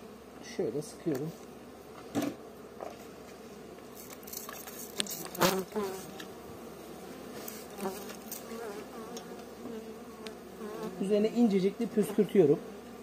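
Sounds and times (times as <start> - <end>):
bee whining past: 0.0 - 13.0
bees buzzing: 0.0 - 13.0.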